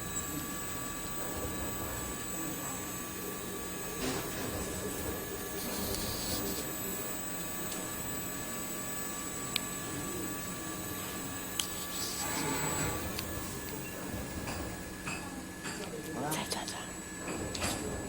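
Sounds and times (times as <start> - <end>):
high whining spindle tones: 0.0 - 15.0
milling machine running: 0.0 - 16.3.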